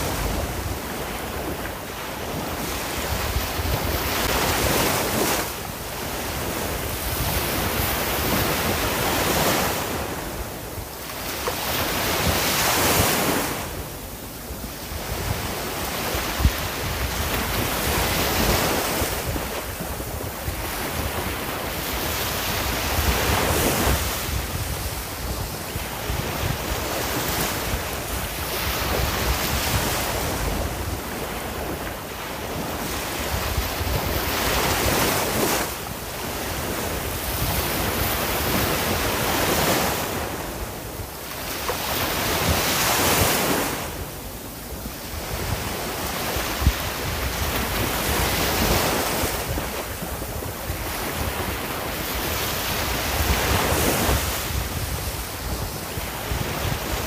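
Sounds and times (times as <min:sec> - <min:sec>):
sea waves breaking on shore: 0:00.0 - 0:57.0
wind rumble on microphone: 0:00.0 - 0:57.0.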